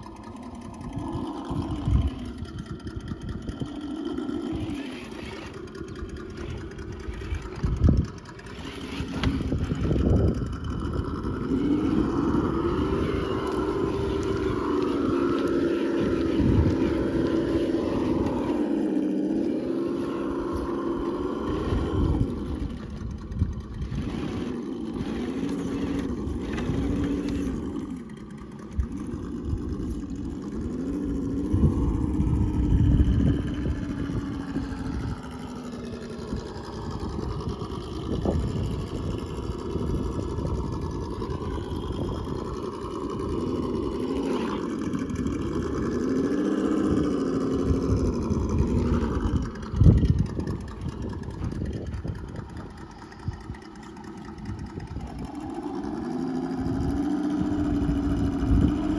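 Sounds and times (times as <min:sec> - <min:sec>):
electric motor whining: 0:00.0 - 0:58.9.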